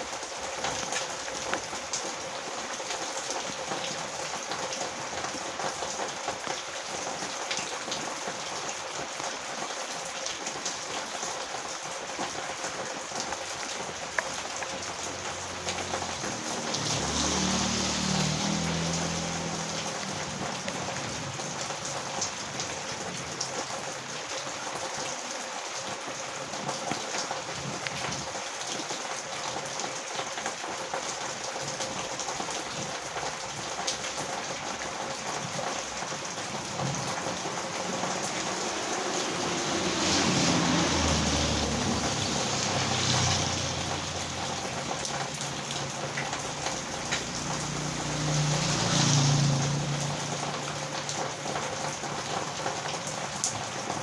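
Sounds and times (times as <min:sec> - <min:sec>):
heavy rain on a road: 0:00.0 - 0:54.0.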